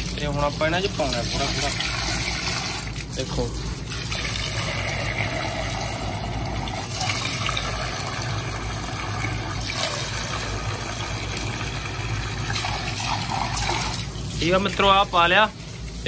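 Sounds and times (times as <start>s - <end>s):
steady low hum: 0.0s - 16.0s
water pouring into steel bowls: 0.0s - 16.0s.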